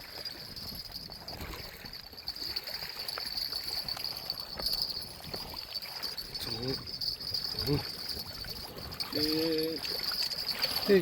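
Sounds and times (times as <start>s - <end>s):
water lapping and trickling: 0.0s - 11.0s
insect drone: 0.1s - 11.0s.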